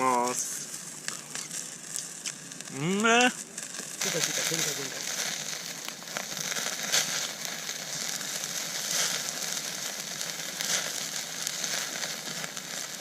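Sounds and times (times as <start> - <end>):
fire pops: 0.0 - 13.0
food sizzling over campfire: 0.0 - 13.0.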